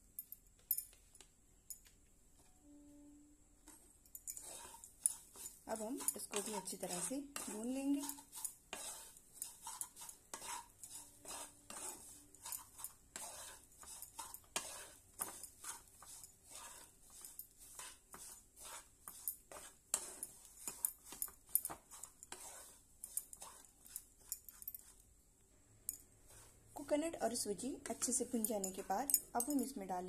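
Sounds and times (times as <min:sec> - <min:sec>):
wooden spatula scraping a pan: 0:03.6 - 0:25.1, 0:26.2 - 0:29.9.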